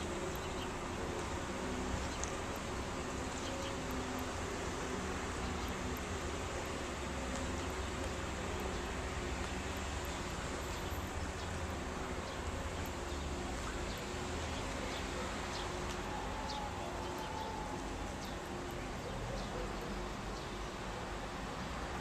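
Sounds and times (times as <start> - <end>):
birds chirping: 0.0 - 21.2.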